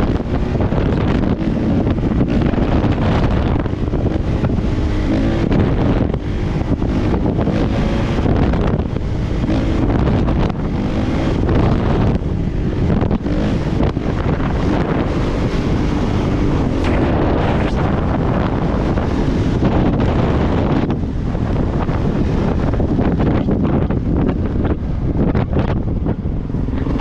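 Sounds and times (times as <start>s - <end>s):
dirt bike engine revving: 0.0s - 27.0s
wind noise on microphone: 0.0s - 27.0s.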